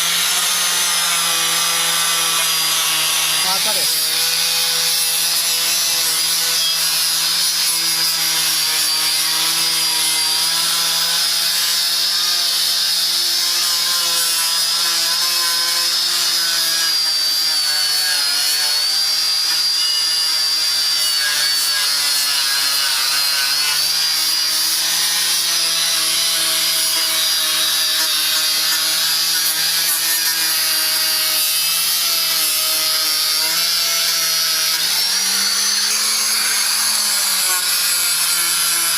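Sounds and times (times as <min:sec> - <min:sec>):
power tool motor whine: 0:00.0 - 0:38.9.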